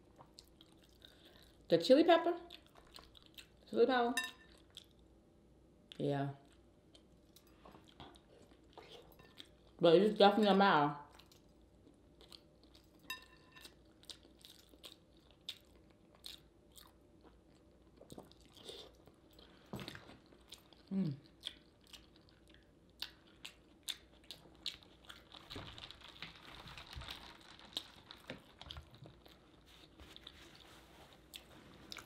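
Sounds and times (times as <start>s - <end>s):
person chewing wetly: 0.0s - 1.7s, 2.5s - 3.6s, 4.5s - 5.0s, 6.5s - 9.8s, 11.1s - 32.0s.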